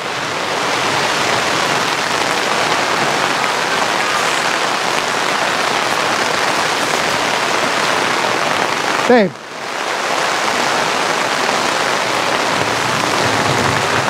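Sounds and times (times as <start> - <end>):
heavy rain on canopy and grass: 0.0 - 14.0.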